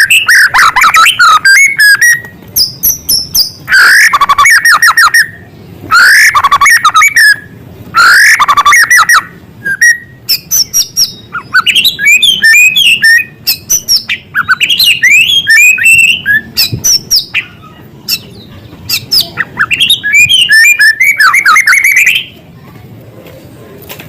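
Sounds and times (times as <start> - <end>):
songbird singing varied song: 0.0 - 22.4.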